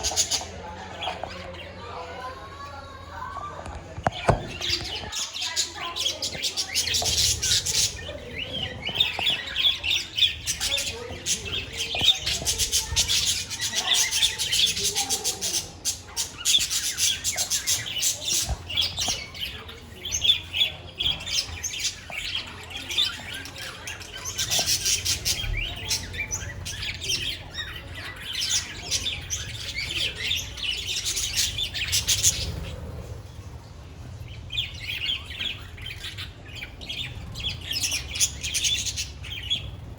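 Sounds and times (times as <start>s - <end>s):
budgerigars chattering and chirping: 0.0s - 1.7s, 4.1s - 39.9s.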